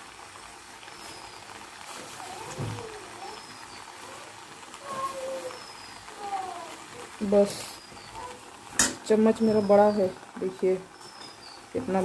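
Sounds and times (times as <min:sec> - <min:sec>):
faint sizzle in a pan: 0:00.0 - 0:12.0.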